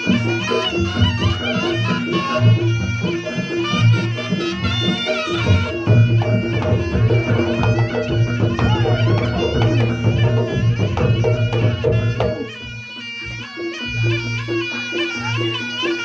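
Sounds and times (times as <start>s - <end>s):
drums: 0.0s - 16.0s
reed pipe melody: 0.0s - 16.0s.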